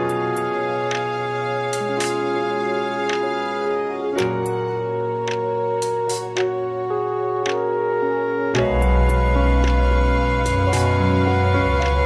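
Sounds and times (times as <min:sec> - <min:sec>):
slow background music: 0:00.0 - 0:12.0.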